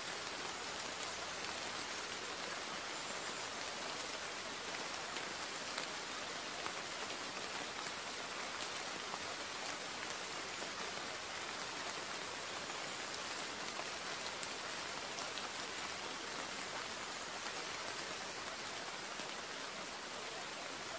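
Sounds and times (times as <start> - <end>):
steady rain hiss: 0.0 - 20.9.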